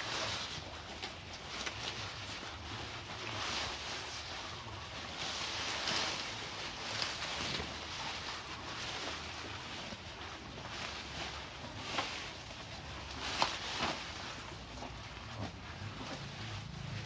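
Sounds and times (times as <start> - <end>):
cow tearing and chewing grass: 0.0 - 17.0.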